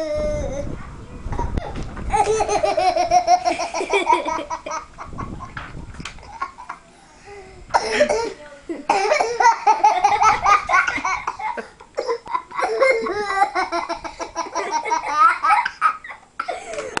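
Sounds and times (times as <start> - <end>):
young children laughing: 1.2 - 17.0.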